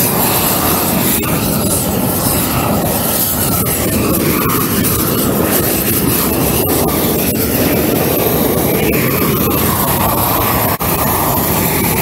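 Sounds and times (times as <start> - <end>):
torch flame rushing: 0.0 - 12.0.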